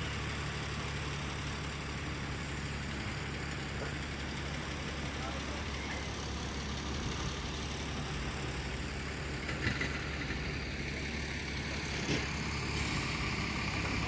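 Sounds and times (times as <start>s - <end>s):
vehicle engines idling: 0.0s - 14.0s.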